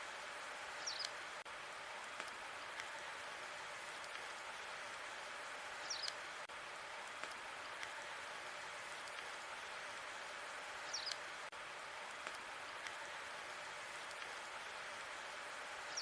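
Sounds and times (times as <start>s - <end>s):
fire hissing and crackling: 0.0s - 16.0s.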